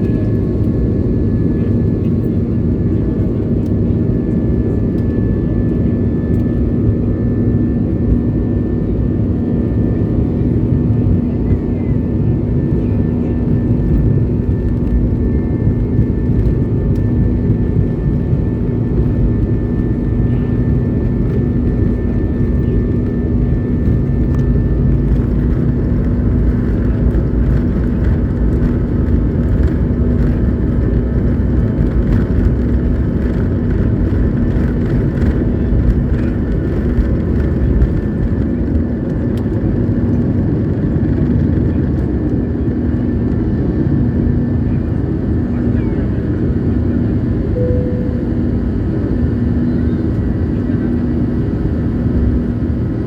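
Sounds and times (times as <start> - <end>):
airliner engines rumbling: 0.0 - 53.0
constant low hum: 0.0 - 53.0.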